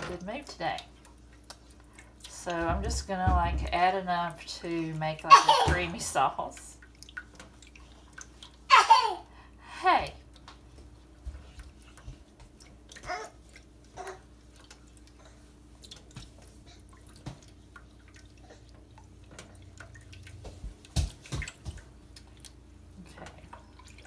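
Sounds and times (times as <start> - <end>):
broth pouring and splashing: 0.0 - 24.0.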